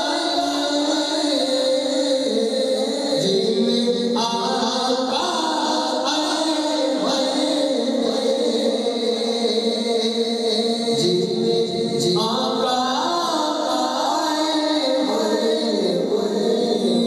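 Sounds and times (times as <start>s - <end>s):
chorus-like vocal drone: 0.0s - 17.0s.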